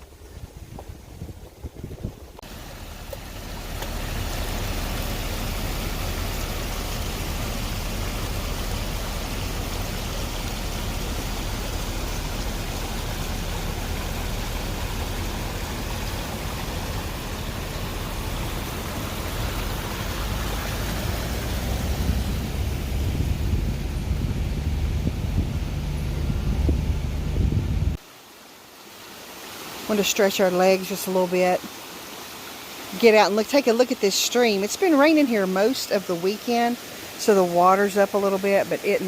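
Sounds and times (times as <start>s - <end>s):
mountain stream rushing: 0.0s - 27.3s, 27.9s - 39.0s.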